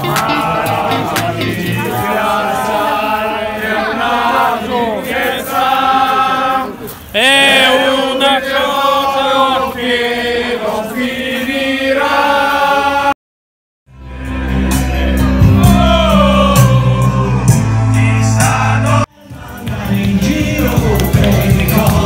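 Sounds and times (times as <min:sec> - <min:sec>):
men singing in chorus: 0:00.0 - 0:13.2, 0:15.0 - 0:22.0.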